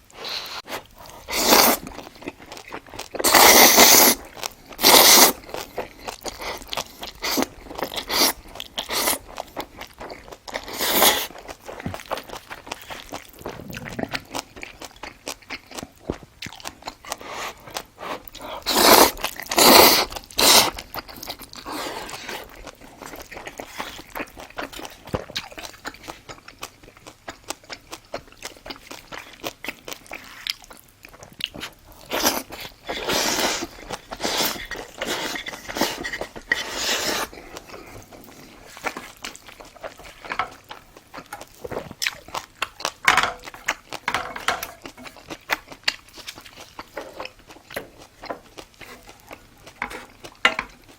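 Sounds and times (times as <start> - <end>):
crunching and chewing fried food: 0.0 - 50.9.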